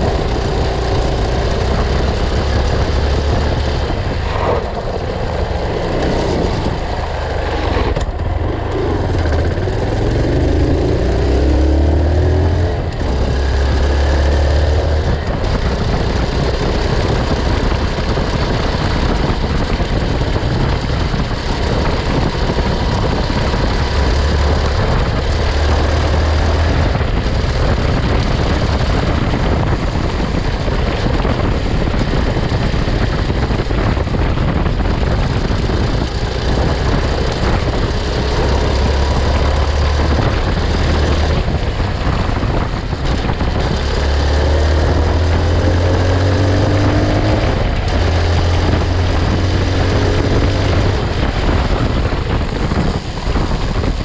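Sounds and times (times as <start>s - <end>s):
motorcycle engine revving: 0.0s - 54.0s
tyres on dirt ride noise: 0.0s - 54.0s.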